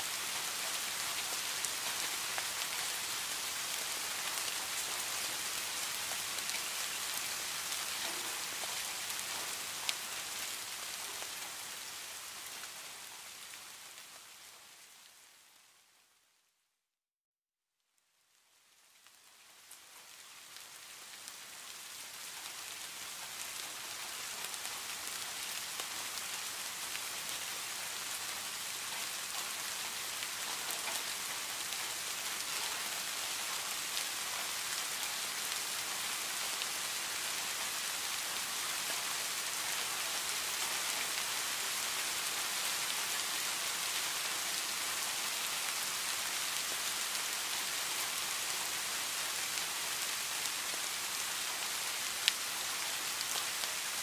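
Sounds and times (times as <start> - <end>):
rain falling on leaves: 0.0 - 16.4, 17.8 - 54.0.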